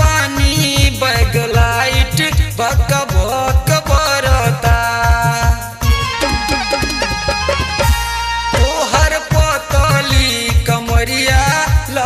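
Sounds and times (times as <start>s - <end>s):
quick drum beat: 0.0s - 12.0s.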